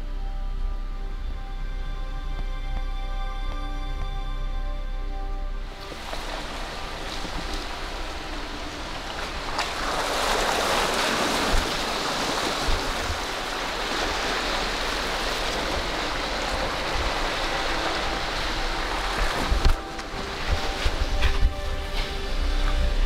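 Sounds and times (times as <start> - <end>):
tyres and wind rushing: 0.0 - 23.0.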